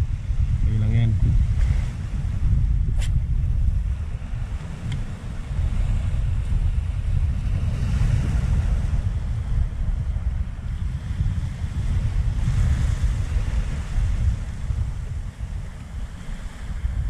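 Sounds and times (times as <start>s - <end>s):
small waves washing over reef: 0.0s - 17.0s
wind buffeting microphone: 0.0s - 17.0s.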